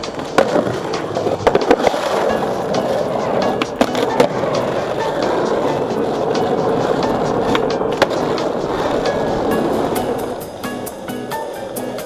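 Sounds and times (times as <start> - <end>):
skateboard clacking on ground: 0.0 - 12.0
skateboard wheels rolling on asphalt: 0.0 - 12.0.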